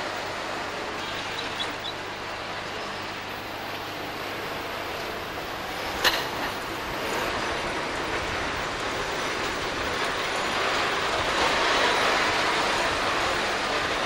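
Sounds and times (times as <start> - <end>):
tram wheels on rails: 0.0 - 14.0.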